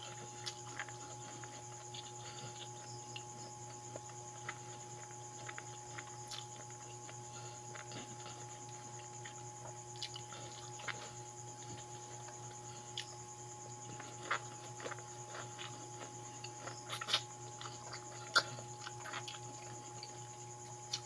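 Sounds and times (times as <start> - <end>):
electrical hum: 0.0 - 21.0
person chewing: 0.0 - 21.0.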